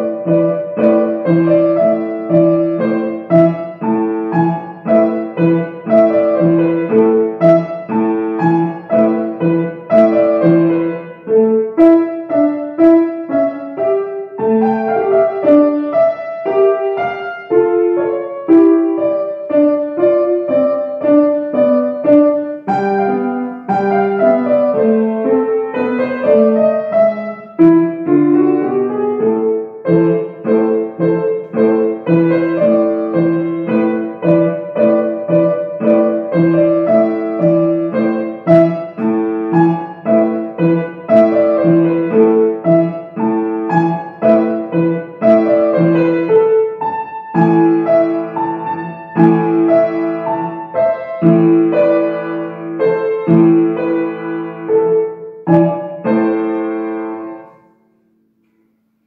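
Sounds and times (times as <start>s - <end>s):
solo piano melody: 0.0s - 59.0s.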